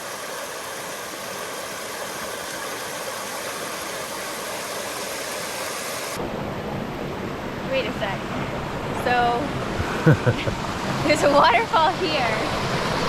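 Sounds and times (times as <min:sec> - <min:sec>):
creek water rushing: 0:00.0 - 0:06.2, 0:08.2 - 0:13.0.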